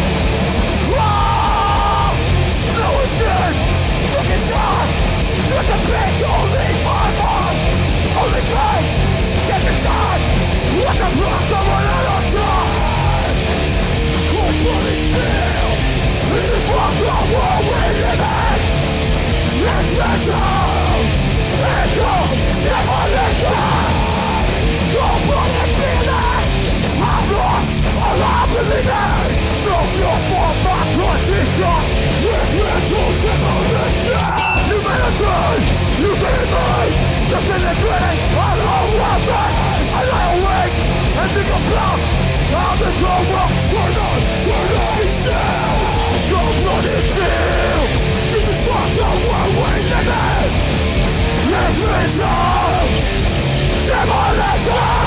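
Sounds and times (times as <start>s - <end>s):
bass and drums: 0.0s - 55.0s
distorted guitars: 0.0s - 55.0s.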